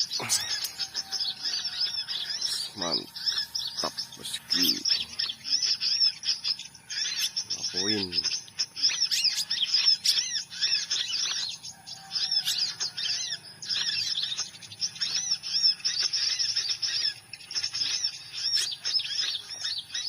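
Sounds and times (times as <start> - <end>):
sunbird chirping: 0.0 - 20.0.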